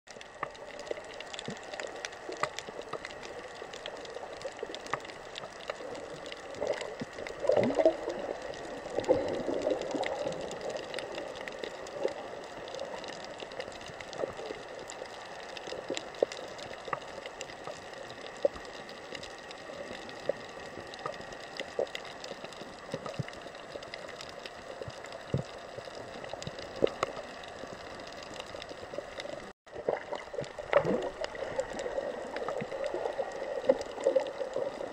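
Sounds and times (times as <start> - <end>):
bubbling gurgle: 0.1 - 34.9
muffled underwater hiss: 0.1 - 34.9.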